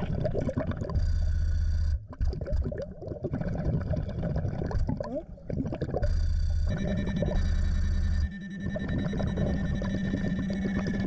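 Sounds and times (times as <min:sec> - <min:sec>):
water bubbling and gurgling: 0:00.0 - 0:07.8, 0:08.6 - 0:11.0.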